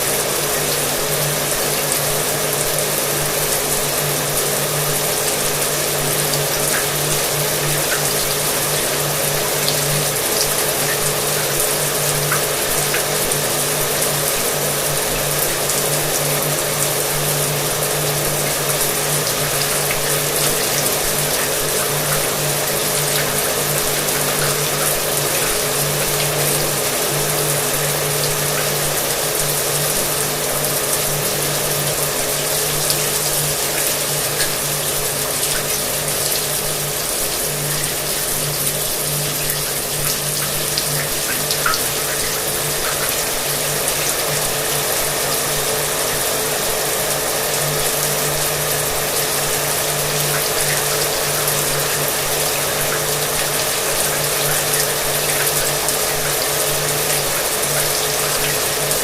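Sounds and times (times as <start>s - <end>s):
shower water spraying: 0.0s - 59.0s.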